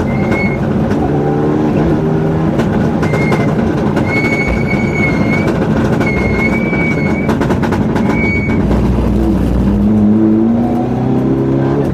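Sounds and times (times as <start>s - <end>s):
car engine from inside cabin: 0.0s - 11.9s
road noise: 0.0s - 11.9s.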